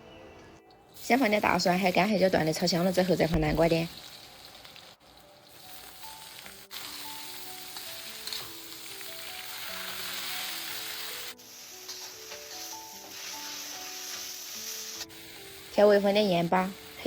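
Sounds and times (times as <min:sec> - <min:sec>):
light background melody: 0:00.0 - 0:04.3, 0:05.0 - 0:17.0
food sizzling in a pan: 0:01.0 - 0:17.0.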